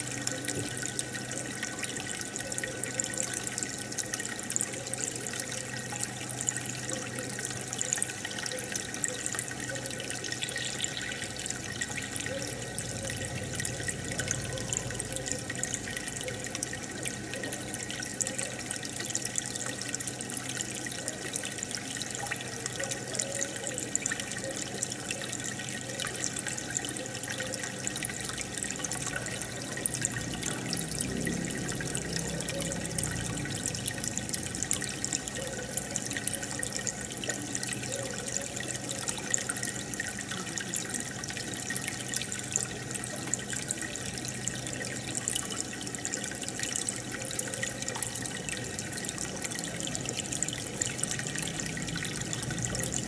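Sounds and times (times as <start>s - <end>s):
aquarium aeration bubbling: 0.0s - 53.0s.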